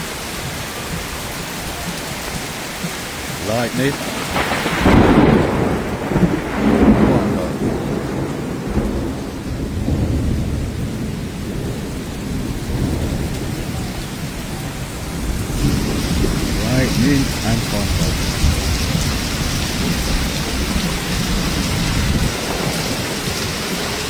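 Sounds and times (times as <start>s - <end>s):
heavy rain: 0.0s - 24.0s
thunder rumbling: 0.0s - 24.0s.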